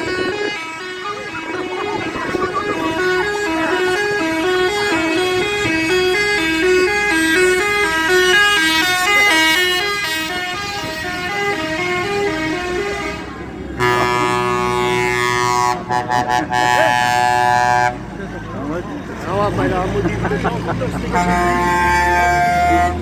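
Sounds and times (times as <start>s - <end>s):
musical horn playing tune: 0.0s - 18.0s, 21.1s - 23.0s.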